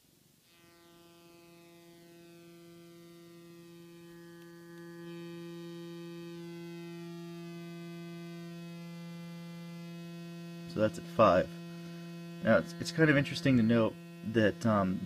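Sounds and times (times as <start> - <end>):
synthesizer pulse-wave tone: 0.4 - 15.0.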